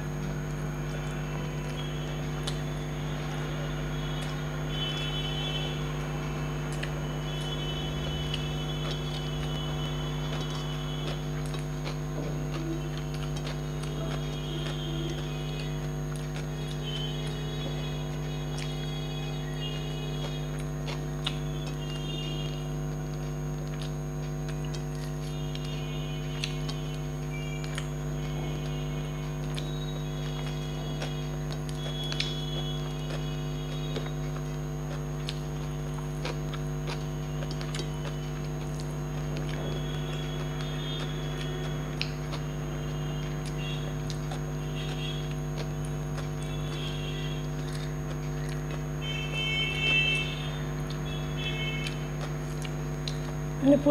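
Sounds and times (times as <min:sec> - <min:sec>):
electrical hum: 0:00.0 - 0:53.9
person chewing food: 0:00.0 - 0:53.9.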